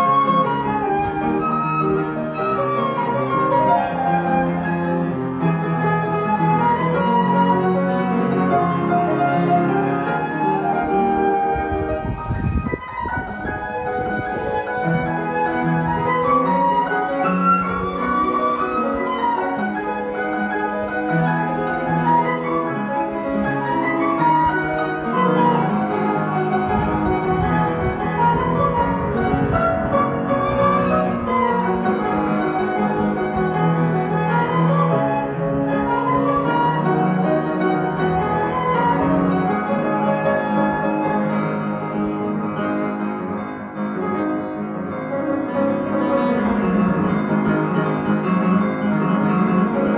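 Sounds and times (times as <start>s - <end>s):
piano: 0.0s - 49.9s.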